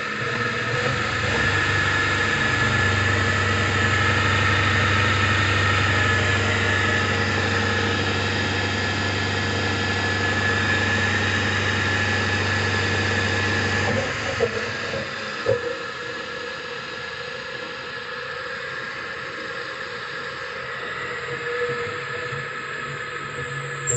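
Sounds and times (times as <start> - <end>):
electric motor humming: 0.0 - 23.9
high steady whine: 0.0 - 23.9.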